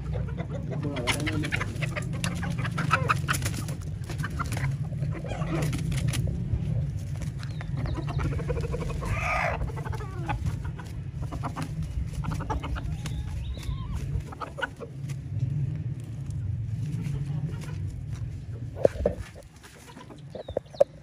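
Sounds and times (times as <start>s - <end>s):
low rumble: 0.0s - 19.6s
chickens clucking: 0.0s - 21.0s.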